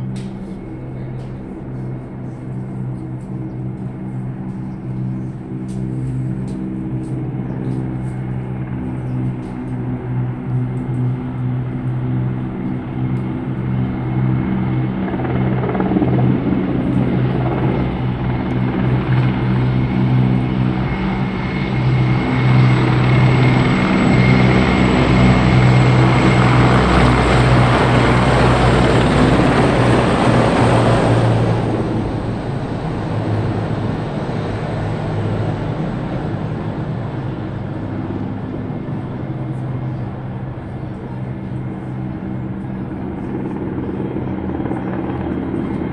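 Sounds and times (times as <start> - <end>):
helicopter rotor beat: 0.0 - 45.9
high turbine whine: 0.0 - 45.9.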